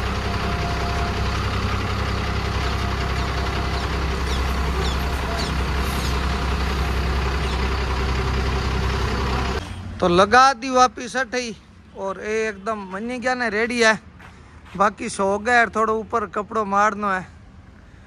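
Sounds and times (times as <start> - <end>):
diesel truck engine idling: 0.0 - 14.5.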